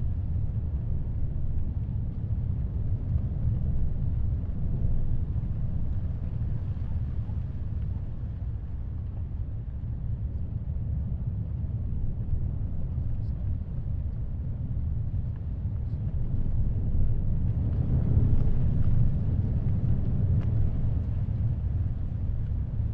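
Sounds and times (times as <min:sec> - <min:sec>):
wind: 0:00.0 - 0:22.9.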